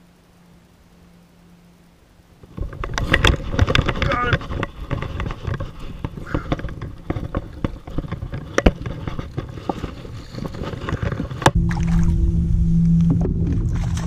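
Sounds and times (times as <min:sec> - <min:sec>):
water splashing: 0:02.4 - 0:14.0.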